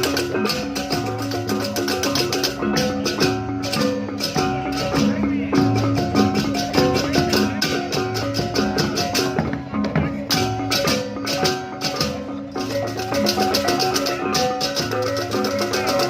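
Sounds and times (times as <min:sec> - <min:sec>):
held melodic notes: 0:00.0 - 0:16.0
rapid light percussion: 0:00.0 - 0:16.0.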